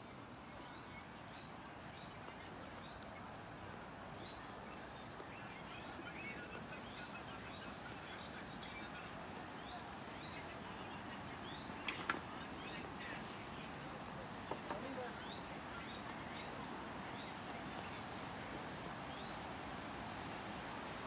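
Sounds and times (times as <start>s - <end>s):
birds chirping: 0.0s - 21.0s
outdoor rushing hiss: 0.0s - 21.0s.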